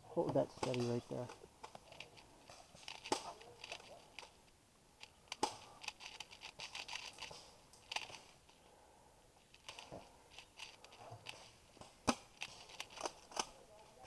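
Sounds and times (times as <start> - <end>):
rustling of hands: 0.6 - 8.7, 9.4 - 14.0.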